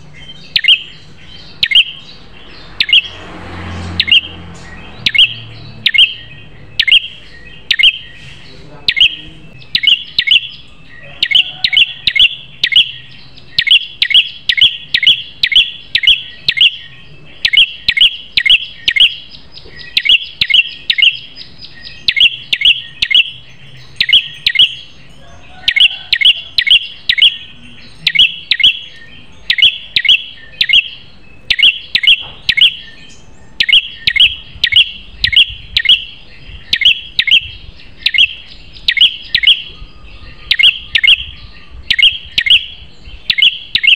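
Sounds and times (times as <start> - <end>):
songbird sharp high chirps: 0.0 - 43.9.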